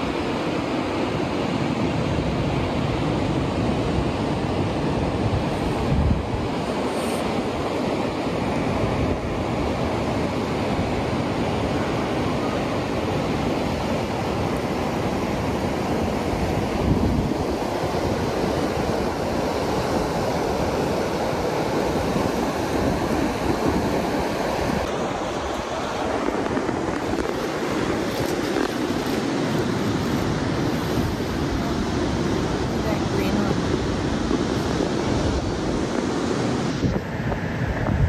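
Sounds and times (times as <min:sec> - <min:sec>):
ocean surf on beach: 0:00.0 - 0:38.0
wind buffeting microphone: 0:00.0 - 0:38.0.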